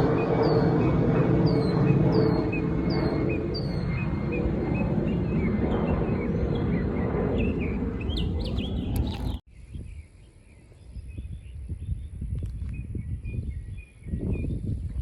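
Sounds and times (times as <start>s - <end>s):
small birds chirping: 0.2s - 14.8s.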